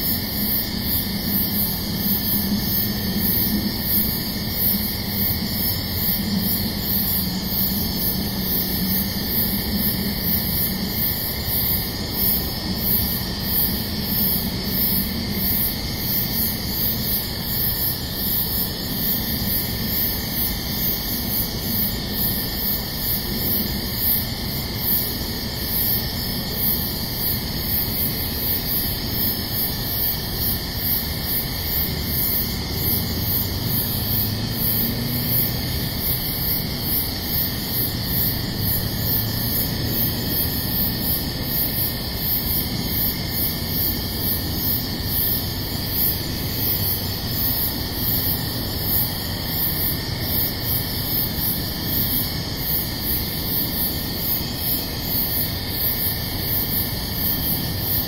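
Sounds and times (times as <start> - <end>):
night-time background hiss: 0.0 - 58.0.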